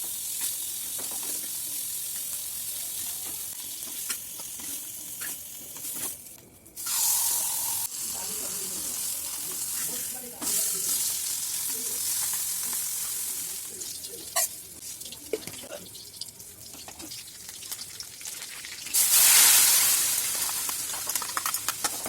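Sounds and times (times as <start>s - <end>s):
oil sizzling in a pan: 0.0s - 22.0s.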